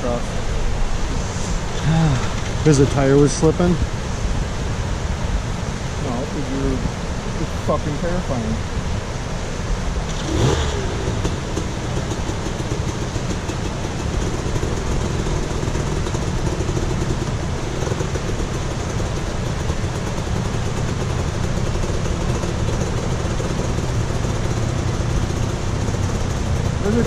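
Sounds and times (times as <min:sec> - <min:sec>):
creek rushing over rocks: 0:00.0 - 0:27.0
dirt bike engine idling: 0:00.0 - 0:27.0.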